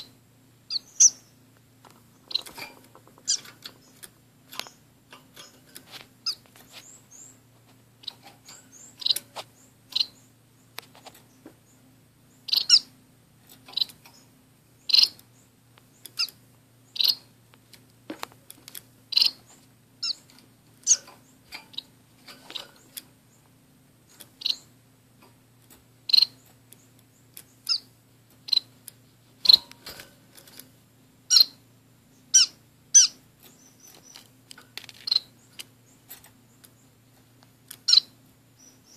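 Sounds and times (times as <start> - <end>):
finches chirping: 0.0 - 13.0, 13.6 - 17.4, 19.0 - 24.8, 26.0 - 30.0, 31.2 - 38.9.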